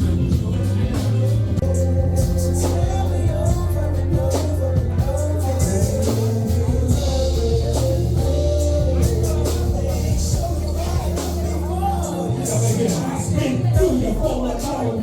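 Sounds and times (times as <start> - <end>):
music with singing: 0.0 - 15.0
steady bass line: 0.0 - 15.0.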